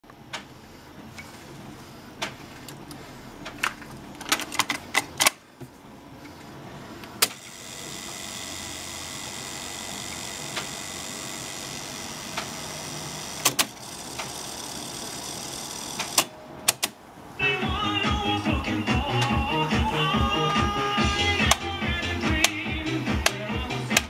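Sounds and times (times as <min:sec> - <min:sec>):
tape running with whirring hiss: 0:00.0 - 0:24.0.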